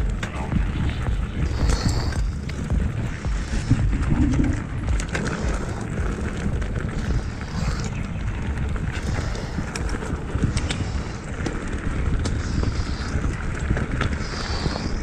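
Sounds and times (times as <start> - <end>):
bike rattling and knocking: 0.0 - 15.0
bike tyres rolling over stones: 0.0 - 15.0
uneven rumble: 0.0 - 15.0.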